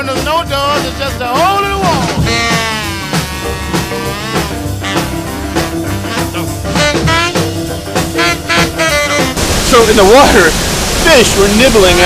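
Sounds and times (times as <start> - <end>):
upbeat jazz-blues instrumental: 0.0 - 12.0.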